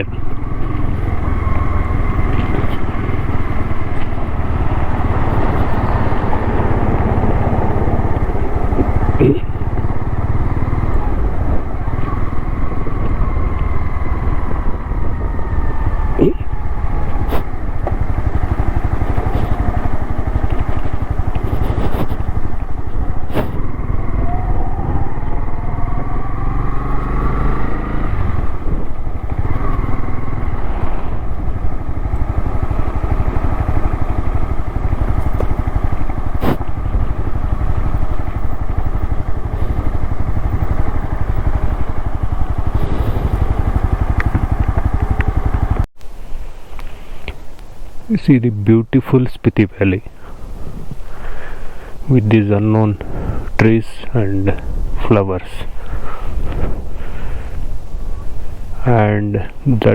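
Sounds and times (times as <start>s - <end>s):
motorcycle engine running: 0.0s - 46.0s, 49.7s - 59.9s.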